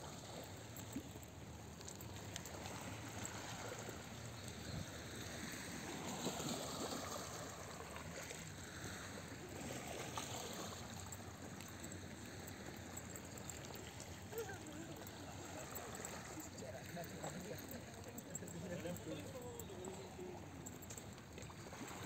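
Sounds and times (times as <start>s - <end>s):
waves lapping on a pebble shore: 0.0s - 22.0s.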